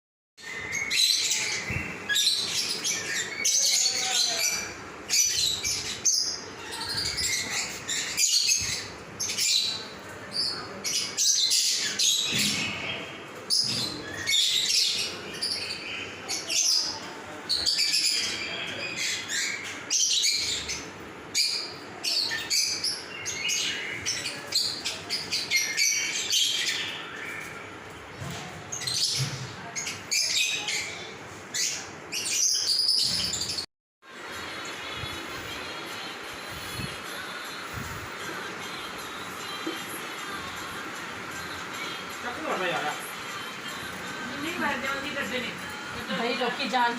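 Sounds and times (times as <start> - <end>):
small birds chirping: 0.4 - 46.9.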